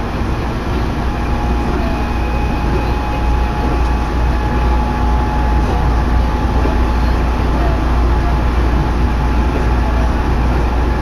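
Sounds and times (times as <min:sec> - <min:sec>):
train rumble inside car: 0:00.0 - 0:11.0.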